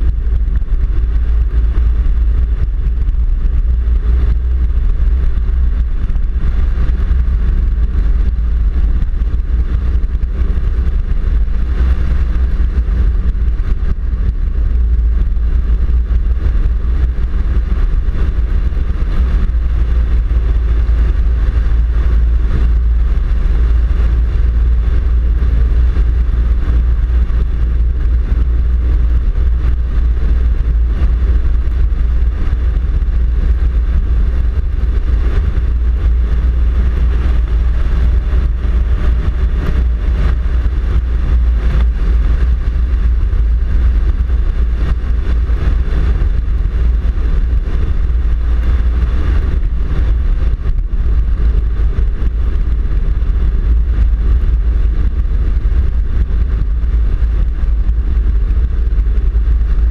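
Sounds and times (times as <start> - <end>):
vehicle engine noise: 0.0 - 59.9.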